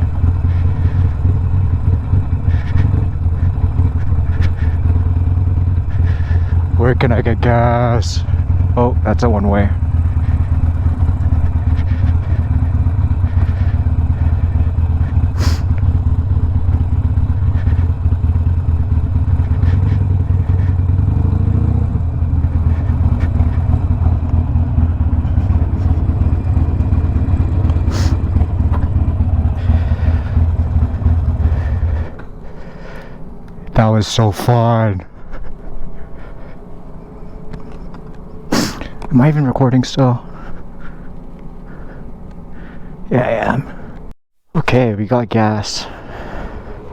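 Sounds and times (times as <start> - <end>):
motorcycle engine rumbling: 0.0 - 46.9.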